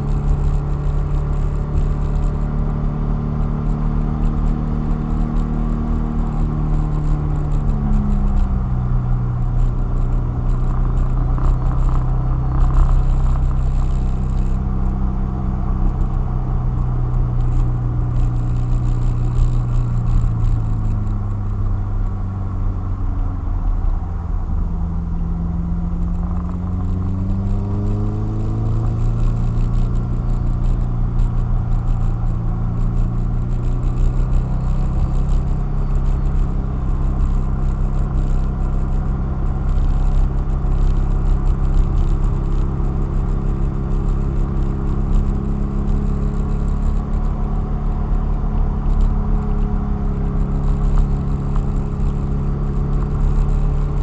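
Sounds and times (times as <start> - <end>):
car engine from inside cabin: 0.0 - 54.0
road and tyre rumble: 0.0 - 54.0.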